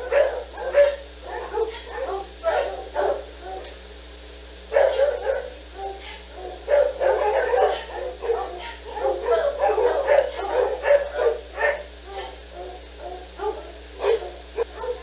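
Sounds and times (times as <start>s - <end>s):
dog barking and yipping: 0.0s - 3.7s, 4.6s - 15.0s.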